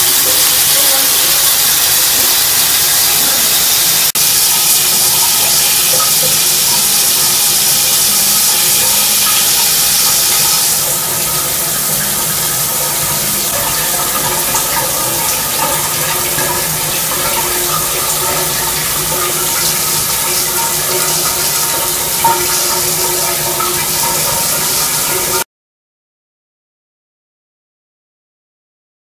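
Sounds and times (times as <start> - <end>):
shower water spraying: 0.0 - 25.4.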